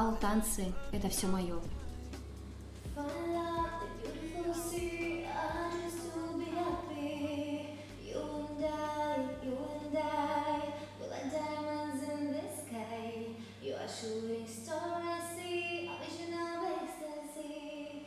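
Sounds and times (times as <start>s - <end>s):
woman singing slow pop melody: 0.0s - 18.0s.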